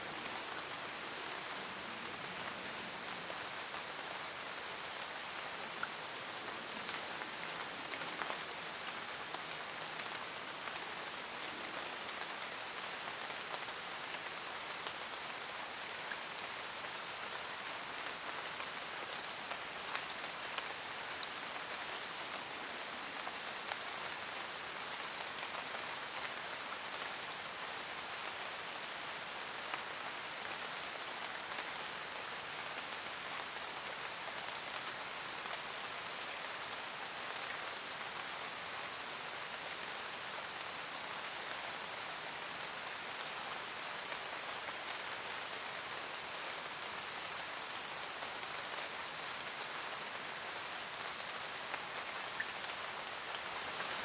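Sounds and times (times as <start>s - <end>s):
rain falling in forest: 0.0s - 54.0s.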